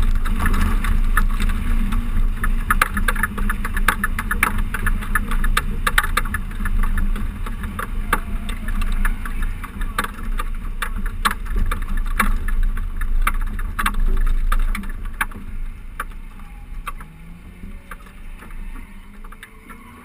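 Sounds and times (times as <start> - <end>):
road noise: 0.0 - 20.0
wind rumble on microphone: 0.0 - 20.0.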